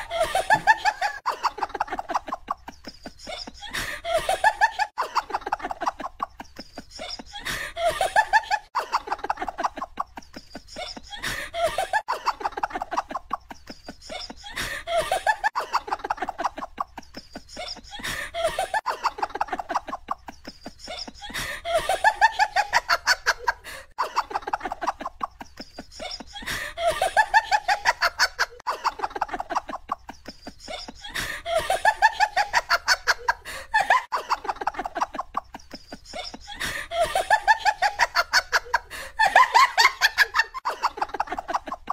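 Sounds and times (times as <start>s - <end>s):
canned laughter: 0.0s - 41.9s.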